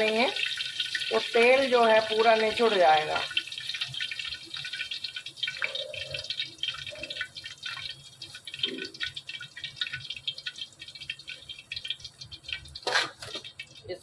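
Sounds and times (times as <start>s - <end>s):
hot oil bubbling and crackling: 0.0s - 14.0s
oil dripping: 0.0s - 14.0s.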